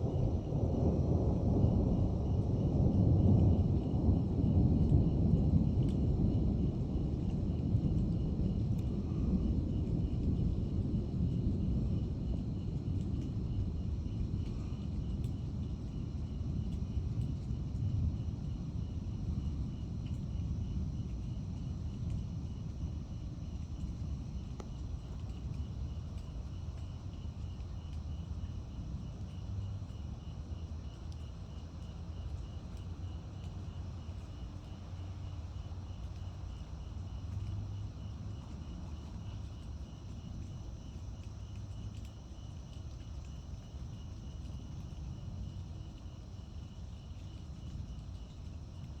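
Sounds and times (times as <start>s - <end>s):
insect chirping: 0.1s - 49.0s.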